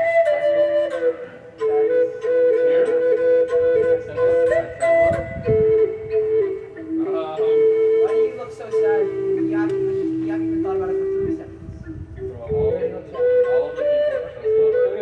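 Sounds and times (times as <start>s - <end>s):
flute melody over drone: 0.0s - 15.0s.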